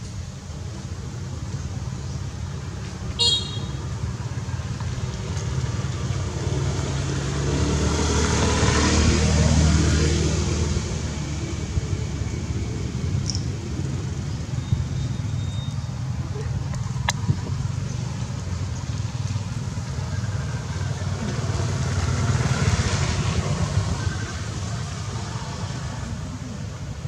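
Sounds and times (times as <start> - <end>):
vehicle engine rumble passing: 3.8 - 27.0.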